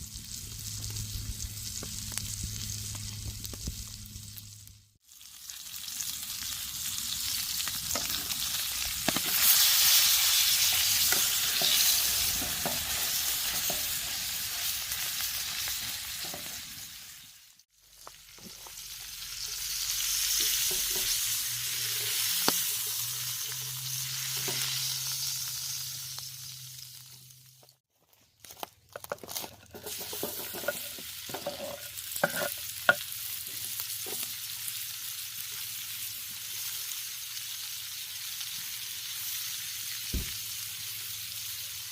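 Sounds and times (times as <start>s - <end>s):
steak sizzling: 0.0s - 27.8s, 29.3s - 41.9s.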